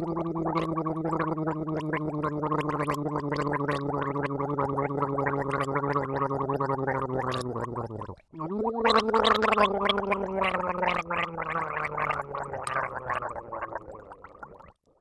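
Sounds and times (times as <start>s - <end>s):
person gargling: 0.0s - 14.7s.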